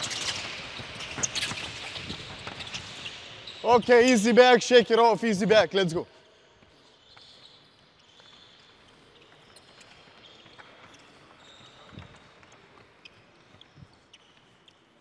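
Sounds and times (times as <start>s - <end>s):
sneakers squeaking on wooden floor: 0.0s - 4.2s, 6.6s - 14.8s.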